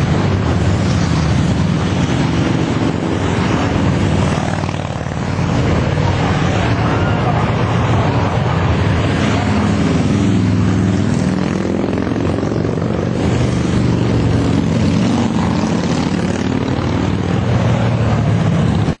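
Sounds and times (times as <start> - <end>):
rushing noise: 0.0 - 19.0.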